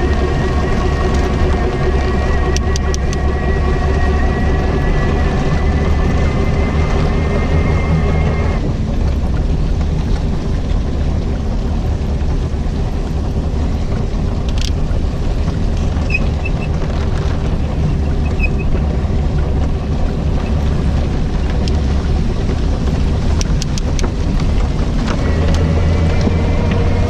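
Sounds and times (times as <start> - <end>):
pedal car moving through rain: 0.0 - 27.0
wind buffeting microphone: 0.0 - 27.0.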